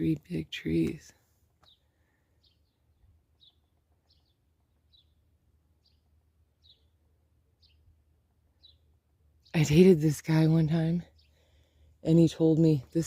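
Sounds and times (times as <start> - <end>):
high bird chirp: 1.6 - 7.0, 7.6 - 13.0.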